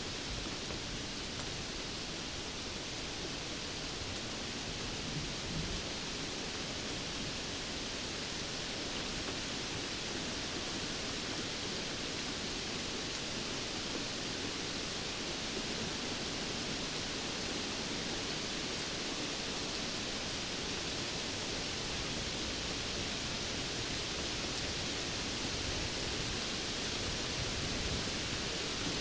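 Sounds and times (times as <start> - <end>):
steady rainfall hiss: 0.0 - 29.0.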